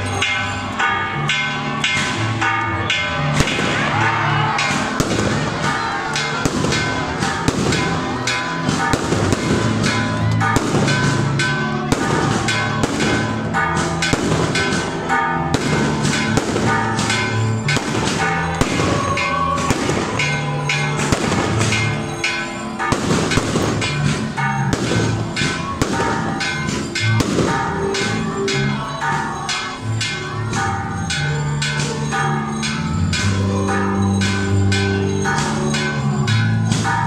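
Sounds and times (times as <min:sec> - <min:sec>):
fireworks bangs and crackles: 0:00.0 - 0:37.0
music: 0:00.0 - 0:37.0.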